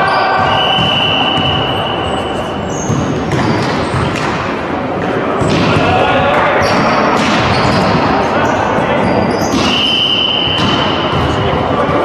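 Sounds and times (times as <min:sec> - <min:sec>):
echoing sports hall noise: 0:00.0 - 0:12.0.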